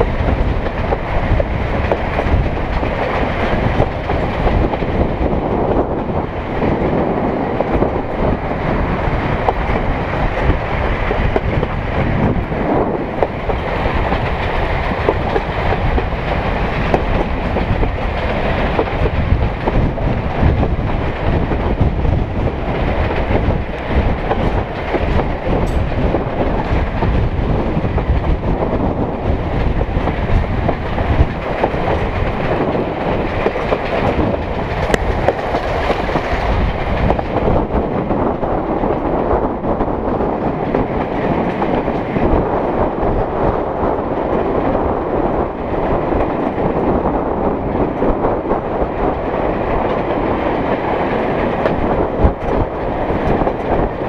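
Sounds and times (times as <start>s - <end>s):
wheels running over track: 0.0s - 54.0s.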